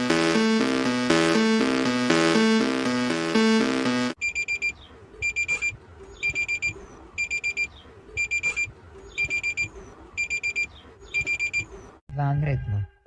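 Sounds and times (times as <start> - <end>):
electronic alarm beeping: 0.0 - 12.0.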